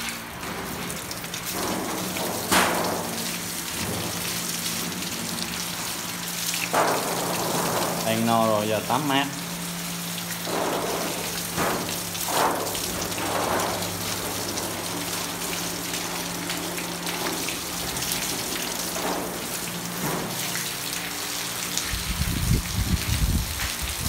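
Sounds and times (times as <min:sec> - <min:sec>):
hose spraying water on mesh: 0:00.0 - 0:24.0.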